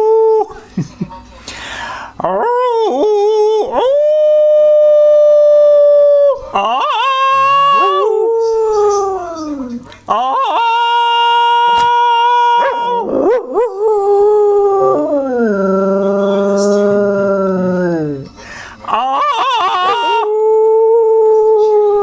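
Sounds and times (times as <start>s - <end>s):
dog howling: 2.2s - 22.0s.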